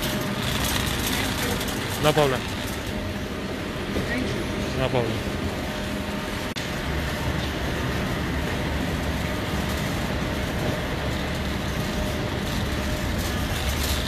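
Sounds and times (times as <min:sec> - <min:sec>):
shopping cart wheels rolling: 0:00.0 - 0:05.0, 0:05.9 - 0:14.0.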